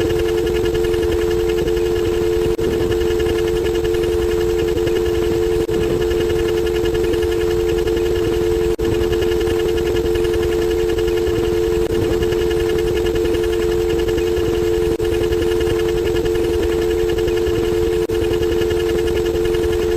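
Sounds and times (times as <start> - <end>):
droning low tones with flutter: 0.0 - 19.9.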